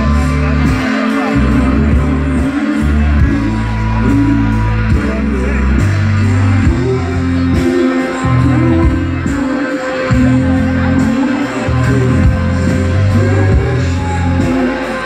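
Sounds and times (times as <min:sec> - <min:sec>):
electric bass line: 0:00.0 - 0:15.0
live pop-rock band: 0:00.0 - 0:15.0
person singing: 0:00.0 - 0:15.0.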